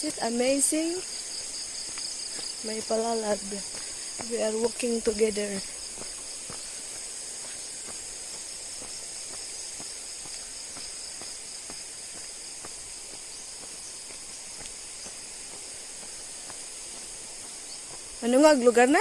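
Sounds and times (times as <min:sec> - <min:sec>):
insects shrilling: 0:00.0 - 0:19.0
soft footsteps: 0:00.3 - 0:19.0.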